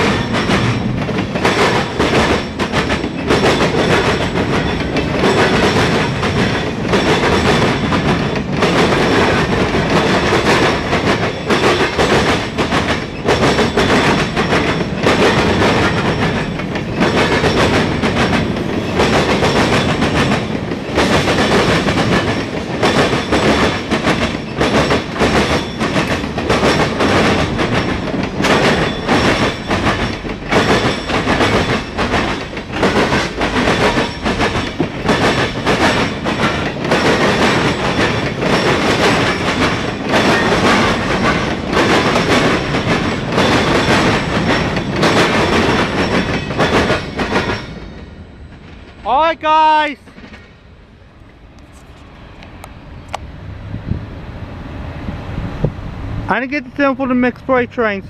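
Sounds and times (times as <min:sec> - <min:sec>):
train wheels clacking on rail joints: 0:00.0 - 0:50.8
freight train rumble: 0:00.0 - 0:58.0.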